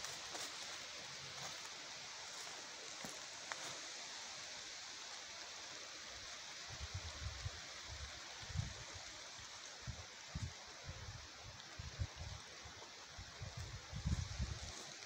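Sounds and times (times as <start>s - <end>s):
faint outdoor rushing hiss: 0.0s - 15.0s.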